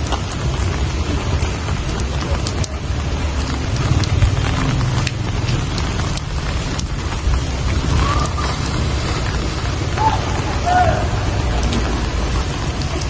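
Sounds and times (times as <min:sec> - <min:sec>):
rain falling: 0:00.0 - 0:13.0
water dripping: 0:00.0 - 0:13.0.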